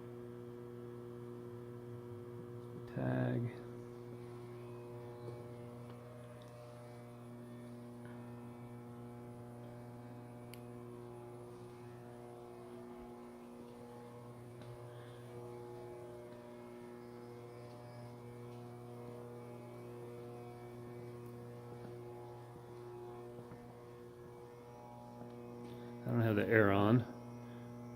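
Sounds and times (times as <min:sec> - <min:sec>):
furnace electrical hum: 0:00.0 - 0:27.9.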